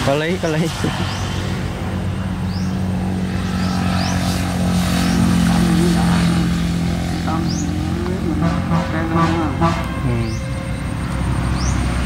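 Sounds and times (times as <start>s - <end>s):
small engine running: 0.2s - 12.0s.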